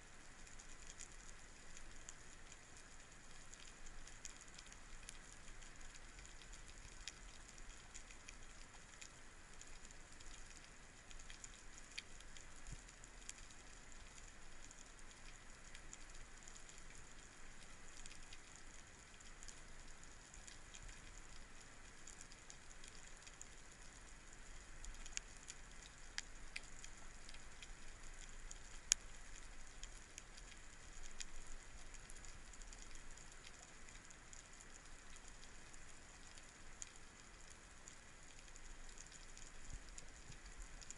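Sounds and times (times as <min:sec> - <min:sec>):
tiny clicks and crackles: 0:00.0 - 0:40.9.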